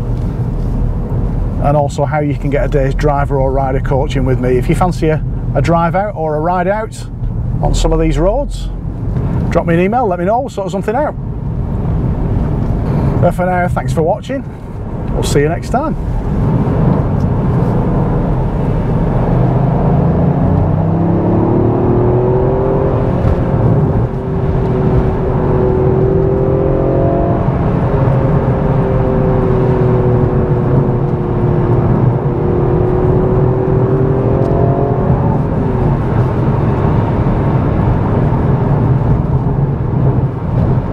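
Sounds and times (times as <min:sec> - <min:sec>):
car engine from inside cabin: 0:00.0 - 0:40.9
tyres rumbling on wet road: 0:00.0 - 0:40.9.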